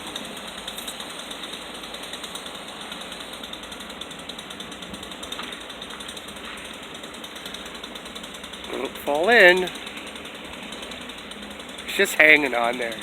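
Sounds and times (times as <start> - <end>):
jackhammer rattling: 0.0 - 13.0.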